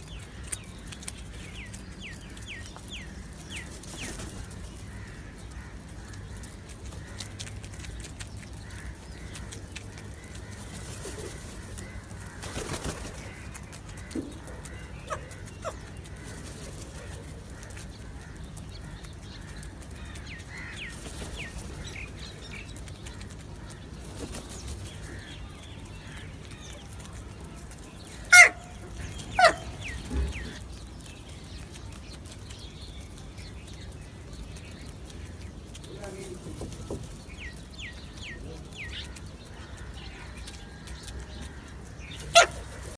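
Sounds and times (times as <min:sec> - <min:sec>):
birds calling: 0:00.0 - 0:42.9.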